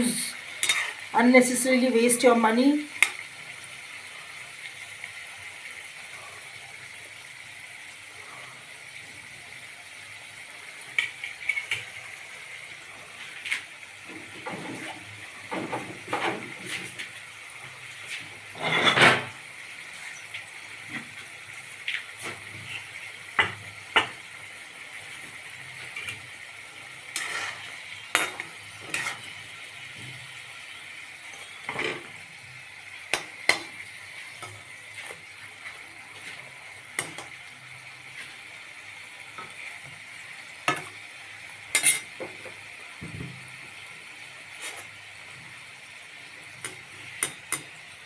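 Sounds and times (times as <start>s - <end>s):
food deep-frying in hot oil: 0.0s - 48.0s.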